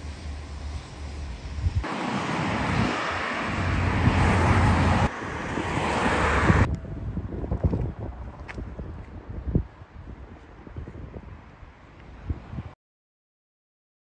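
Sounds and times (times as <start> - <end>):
cars passing on busy road: 0.0 - 12.8
wind on microphone: 1.4 - 12.8.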